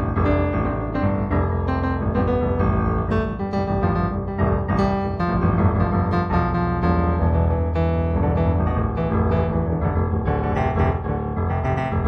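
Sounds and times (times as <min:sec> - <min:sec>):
solo piano music: 0:00.0 - 0:12.0.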